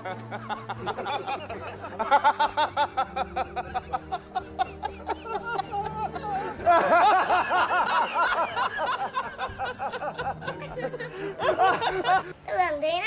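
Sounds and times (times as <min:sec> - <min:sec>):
men laughing: 0:00.0 - 0:12.4
background music: 0:00.0 - 0:13.0.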